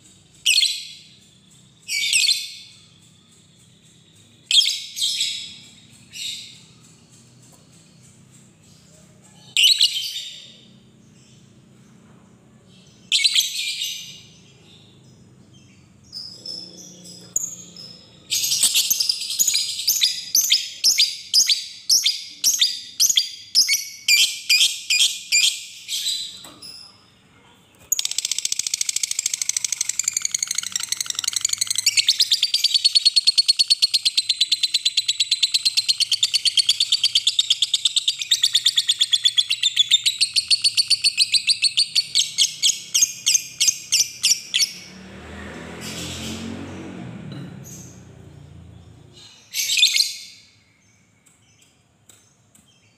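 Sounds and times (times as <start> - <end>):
lovebird chirping and chattering: 0.1 - 11.5, 12.7 - 26.8, 27.8 - 44.9, 49.1 - 51.7.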